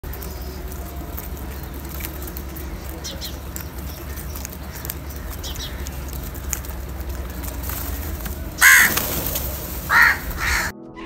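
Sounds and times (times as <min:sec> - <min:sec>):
steady low rumble: 0:00.0 - 0:10.7
crow cawing: 0:00.3 - 0:10.7.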